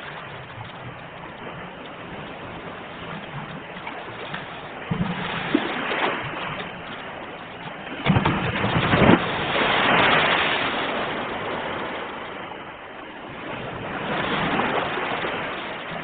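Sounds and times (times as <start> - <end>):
ocean waves on shore: 0.0 - 16.0.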